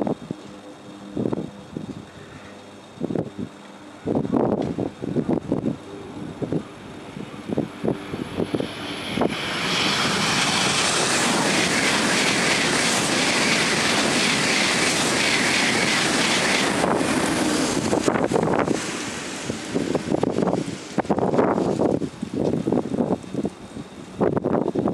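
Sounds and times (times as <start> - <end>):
high-speed train passing: 0.0 - 24.9
wind buffeting microphone: 2.9 - 24.9.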